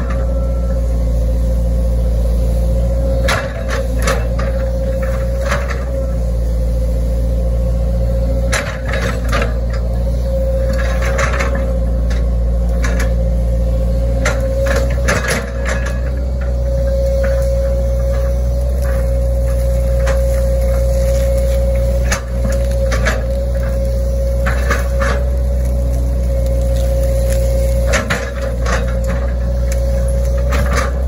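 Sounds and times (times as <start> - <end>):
excavator diesel engine: 0.0 - 31.0
hydraulic whine: 0.0 - 31.0.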